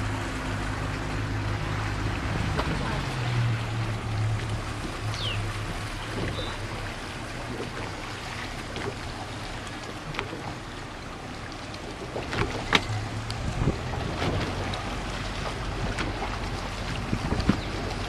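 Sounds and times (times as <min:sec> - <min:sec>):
small boat motor running: 0:00.0 - 0:18.0
water splashing along hull: 0:00.0 - 0:18.0.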